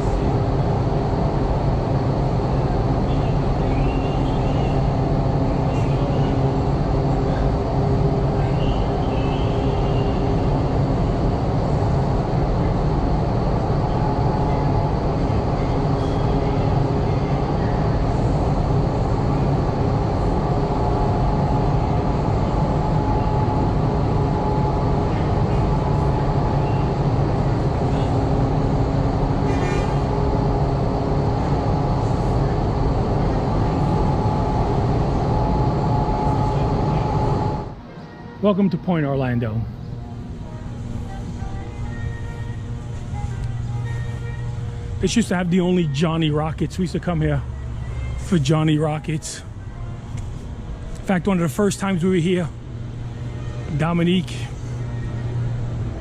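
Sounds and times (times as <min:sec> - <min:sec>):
faint steady tones: 0:00.0 - 0:56.0
road vehicle rumble: 0:00.0 - 0:56.0.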